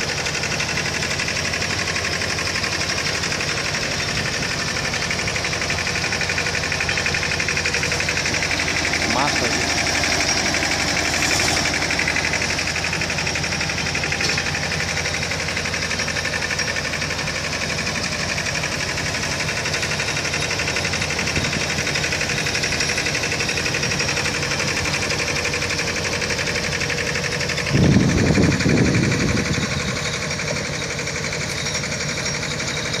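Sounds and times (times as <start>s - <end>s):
drill rig running: 0.0s - 33.0s.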